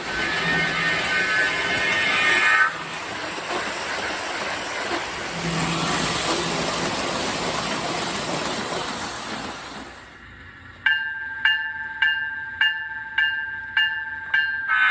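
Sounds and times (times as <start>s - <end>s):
model train running on track: 0.0s - 14.9s.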